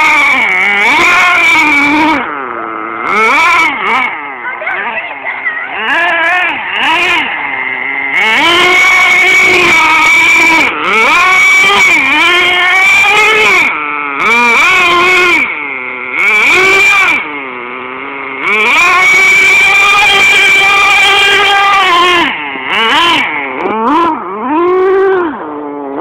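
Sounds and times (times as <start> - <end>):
rc car engine revving: 0.0 - 26.0.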